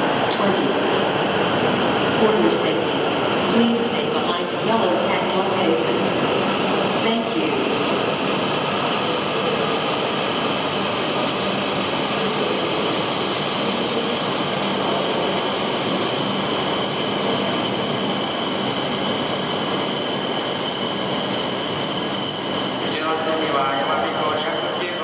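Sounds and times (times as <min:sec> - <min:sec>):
train rushing with high whine: 0:00.0 - 0:25.0.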